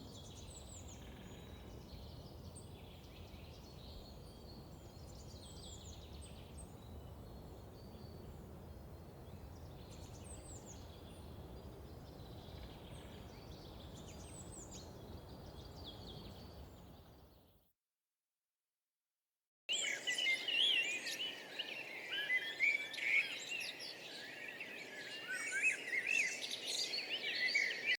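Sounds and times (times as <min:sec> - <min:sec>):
small birds chirping: 0:00.0 - 0:17.4, 0:19.7 - 0:27.9.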